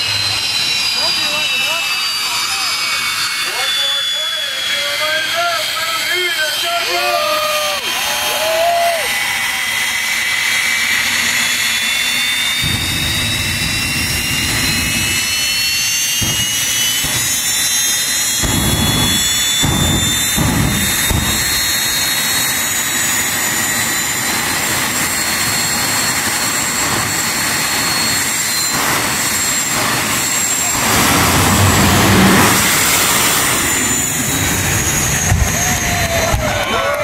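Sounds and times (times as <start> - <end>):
jet engine whine: 0.0 - 37.0.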